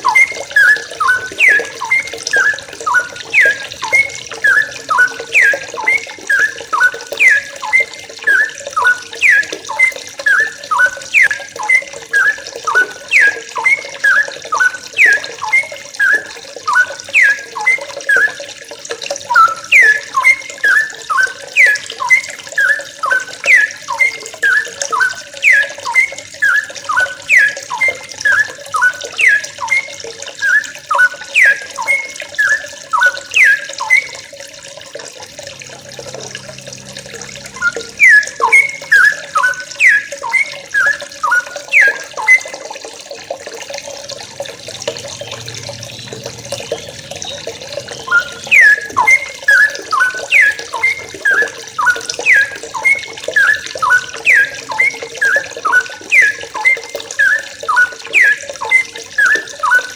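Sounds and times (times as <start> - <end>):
bulbuls calling: 0.0 - 18.3, 19.3 - 34.1, 35.7 - 42.5, 44.6 - 59.9.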